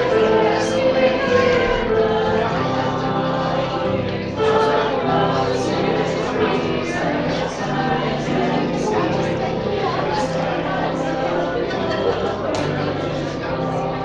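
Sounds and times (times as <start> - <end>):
choir singing a hymn: 0.0 - 14.0.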